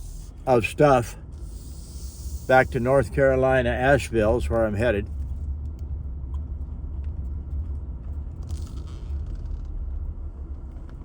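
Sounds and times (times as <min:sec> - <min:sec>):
vehicle rumble from inside cabin: 0:00.0 - 0:11.0.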